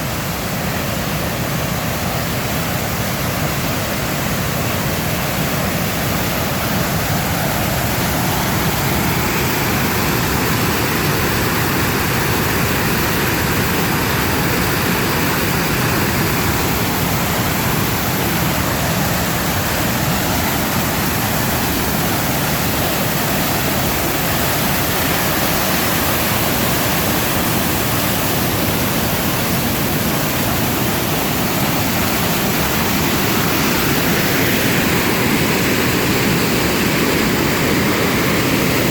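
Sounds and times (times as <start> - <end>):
water rushing over falls: 0.0 - 38.9.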